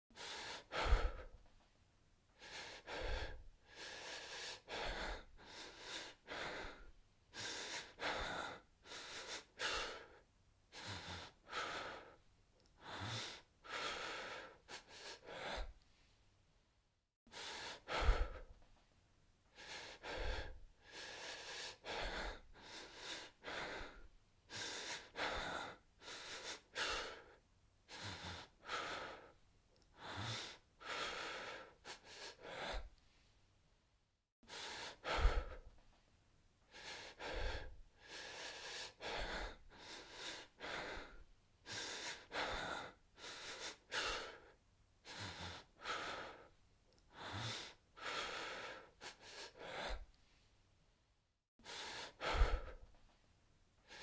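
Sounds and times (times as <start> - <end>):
man breathing hard and fast: 0.1 - 1.7, 2.3 - 16.2, 17.3 - 18.8, 19.4 - 33.4, 34.4 - 36.0, 36.6 - 50.5, 51.6 - 54.0.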